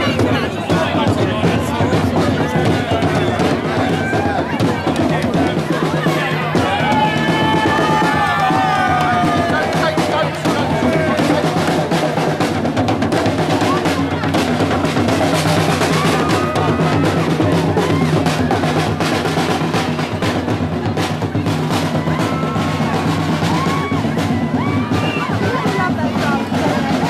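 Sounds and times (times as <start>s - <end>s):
crowd voices and shouts: 0.0s - 27.0s
snare and bass drums: 0.0s - 27.0s.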